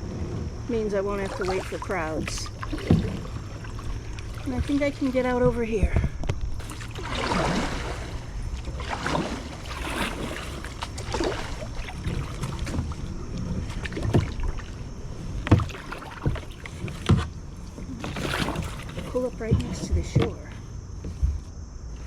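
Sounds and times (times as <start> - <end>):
water swishing from paddle strokes: 0.0 - 21.5
wind rumble on microphone: 0.0 - 22.0.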